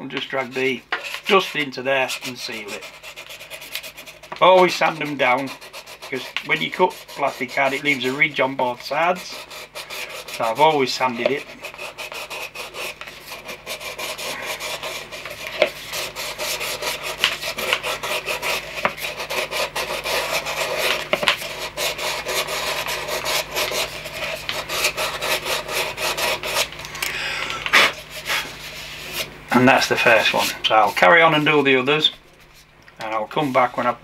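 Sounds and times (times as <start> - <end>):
sandpaper rubbing on plastic: 0.2 - 26.8, 27.7 - 34.0.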